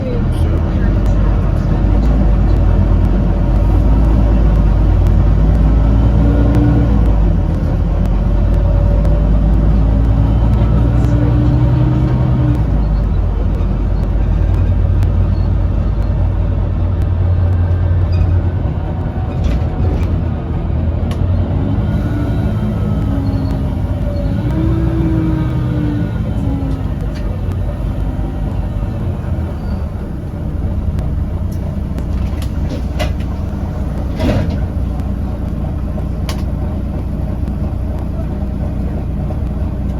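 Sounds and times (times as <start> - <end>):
bus engine rumbling: 0.0 - 39.9.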